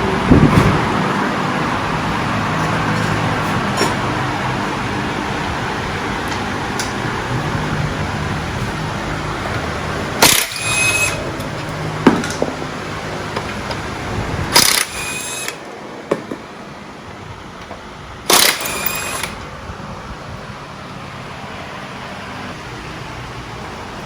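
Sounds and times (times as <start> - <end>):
air tool whining: 0.0 - 24.0.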